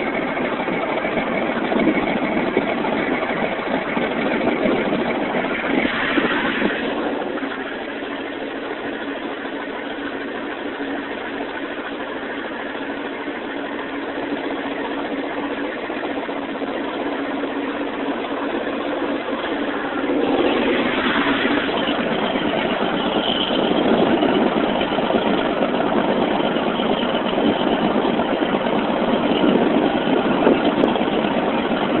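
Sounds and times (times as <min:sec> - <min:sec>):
diesel engine idling and revving: 0:00.0 - 0:32.0.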